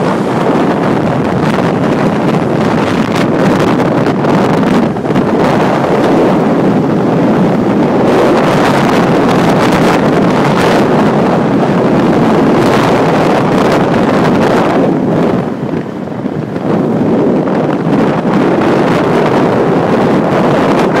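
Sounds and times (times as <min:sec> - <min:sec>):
car road noise: 0:00.0 - 0:21.0
wind rush on microphone: 0:00.0 - 0:21.0.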